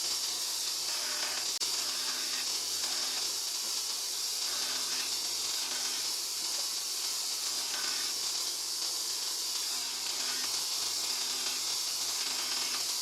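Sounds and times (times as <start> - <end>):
sandblaster hissing: 0.0 - 13.0.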